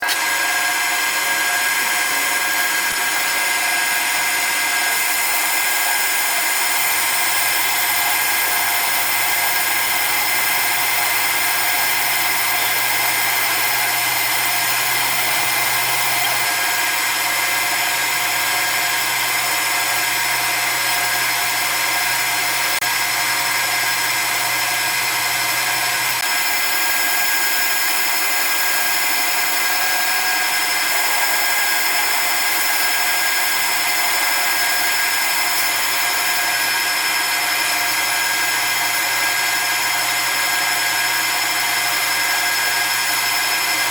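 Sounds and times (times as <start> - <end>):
grinding wheel whining: 0.0 - 43.9.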